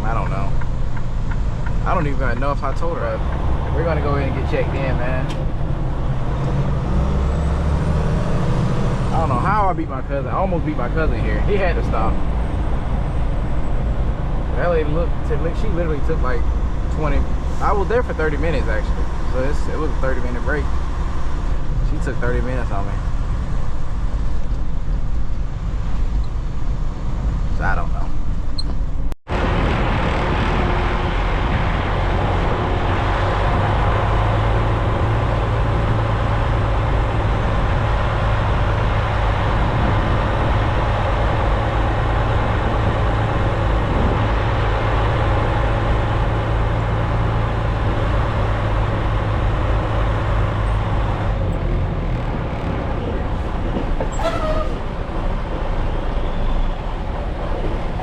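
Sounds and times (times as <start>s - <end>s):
diesel engine droning: 0.0s - 28.6s, 29.3s - 58.0s
road and cab noise: 0.0s - 58.0s.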